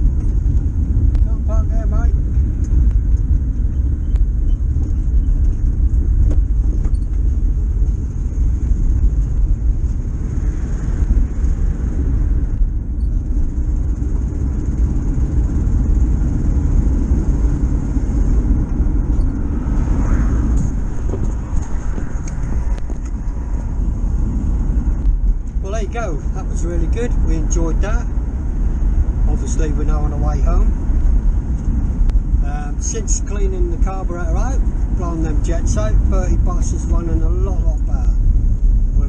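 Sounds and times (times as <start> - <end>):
camper van engine rumble: 0.0 - 39.0
road noise: 0.0 - 39.0.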